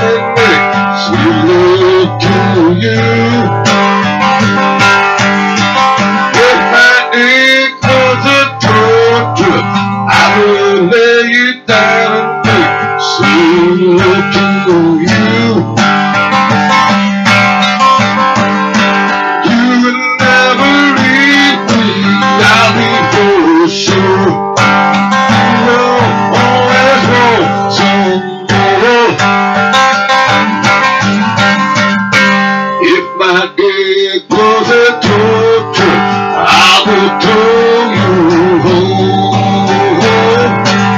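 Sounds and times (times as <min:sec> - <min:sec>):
man singing: 0:00.0 - 0:17.0, 0:17.8 - 0:32.0, 0:32.7 - 0:40.9
acoustic guitar strumming: 0:00.0 - 0:40.9.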